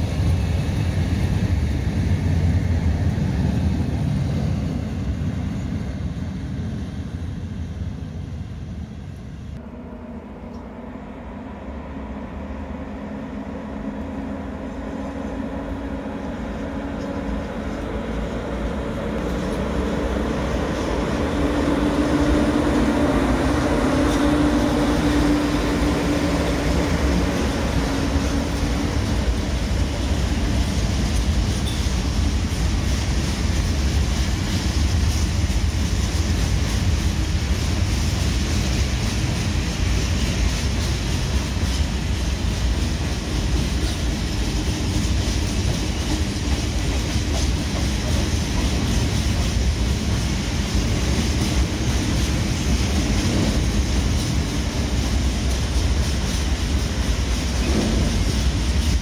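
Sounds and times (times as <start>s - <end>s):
electric locomotive humming: 0.0s - 59.0s.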